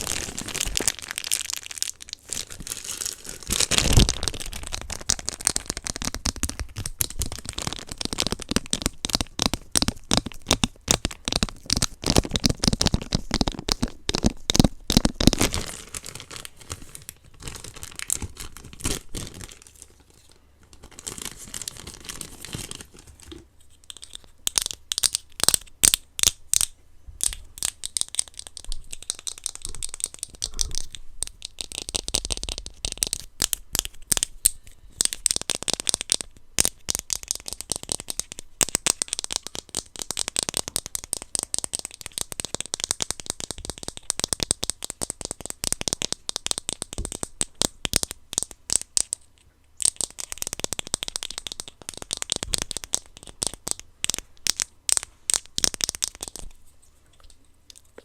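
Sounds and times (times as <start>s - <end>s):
plastic packaging crackling: 0.0s - 49.2s, 49.8s - 56.5s.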